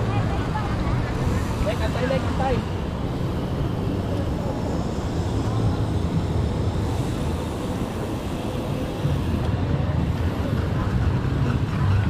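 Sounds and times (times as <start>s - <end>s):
bicycle tyre noise on road: 0.0s - 12.0s
wind rushing over microphone: 0.0s - 12.0s.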